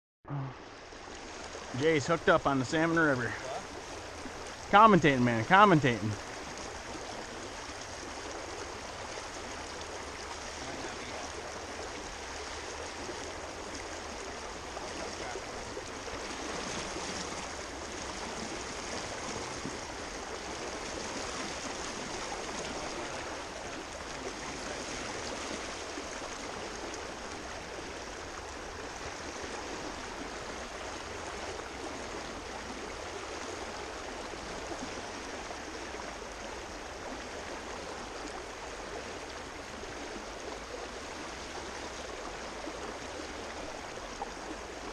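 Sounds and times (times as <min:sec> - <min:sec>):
shallow river rushing: 0:00.5 - 0:44.9.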